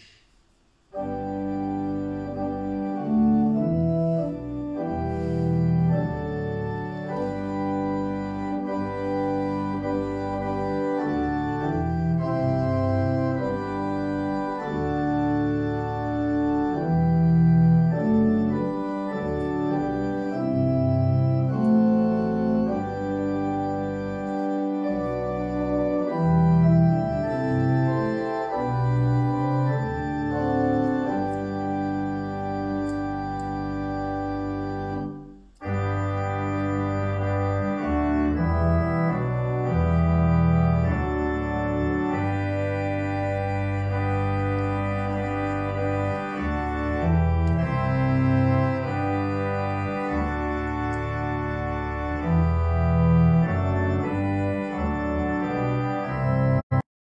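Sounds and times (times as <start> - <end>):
pipe organ playing hymn: 0.9 - 56.8.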